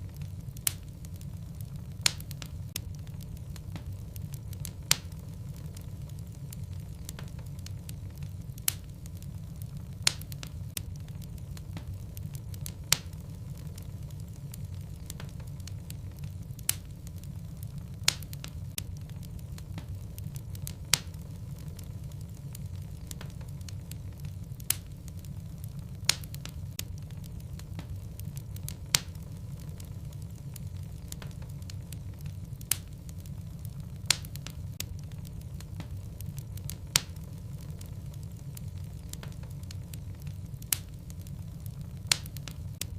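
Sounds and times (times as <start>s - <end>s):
fire crackling and popping: 0.0s - 42.9s
low rumble of flames: 0.0s - 42.9s.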